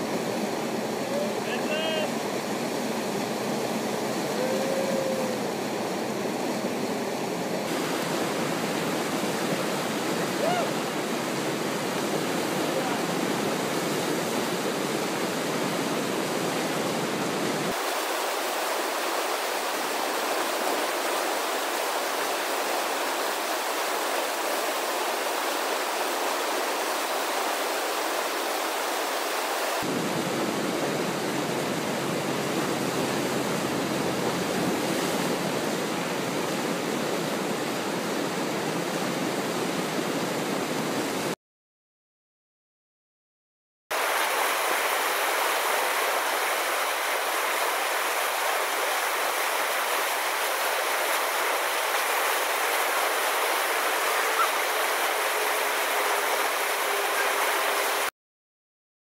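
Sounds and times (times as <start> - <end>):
whitewater rushing: 0.0 - 41.4, 43.9 - 58.1.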